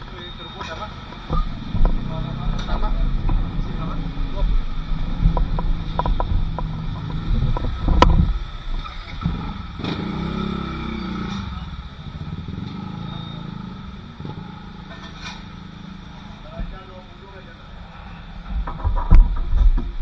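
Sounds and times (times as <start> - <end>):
motor vehicle passing: 0.0 - 20.0.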